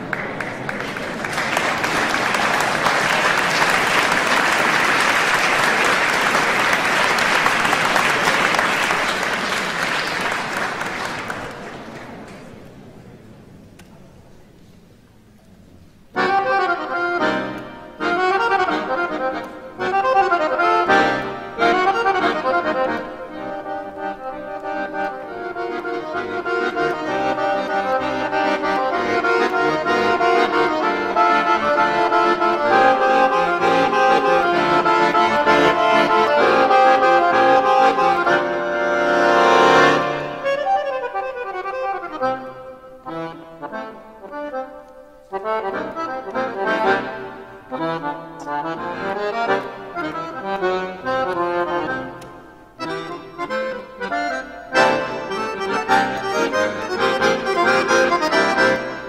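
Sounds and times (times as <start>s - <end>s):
accordion playing: 1.3s - 11.6s, 16.1s - 59.0s.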